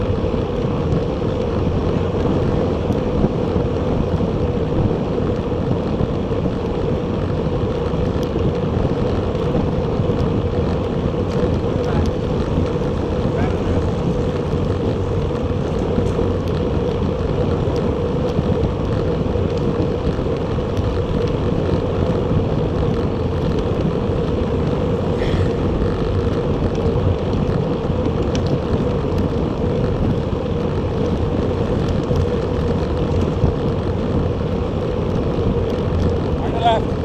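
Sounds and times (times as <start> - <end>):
bicycle tyre road noise: 0.0 - 37.0
wind rush on microphone: 0.0 - 37.0.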